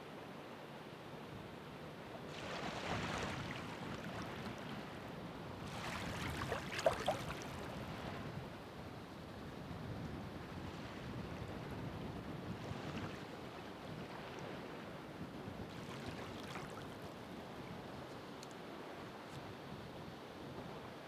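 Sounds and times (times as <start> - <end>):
waves breaking and washing in: 0.2 - 21.0.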